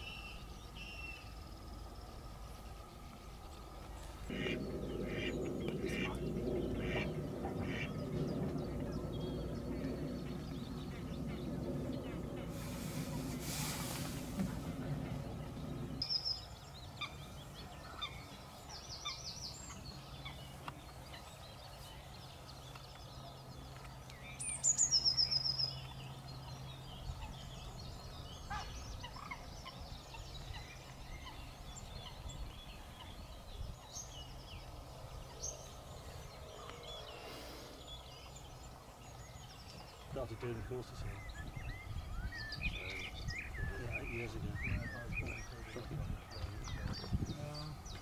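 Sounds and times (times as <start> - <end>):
faint low hum: 0.0 - 48.0
loud rapid bird song: 0.0 - 48.0
small birds chirping: 0.0 - 48.0.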